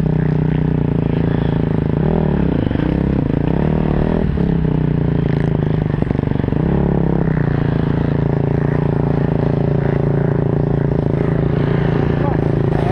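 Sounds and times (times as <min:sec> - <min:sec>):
engine clatter: 0:00.0 - 0:12.9
motorcycle engine running: 0:00.0 - 0:12.9.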